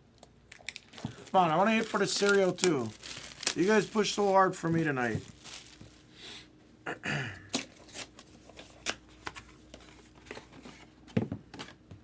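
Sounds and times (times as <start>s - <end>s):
rustling of cardboard and cards: 0.8s - 6.1s, 7.6s - 12.0s.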